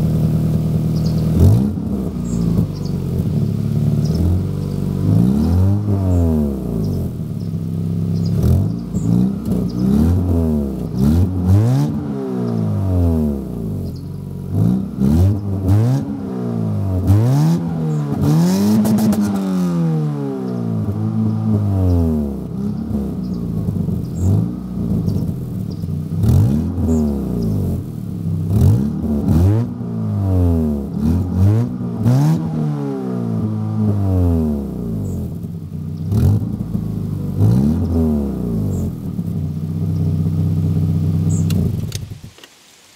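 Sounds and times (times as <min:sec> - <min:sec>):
car engine revving: 0:00.0 - 0:42.4.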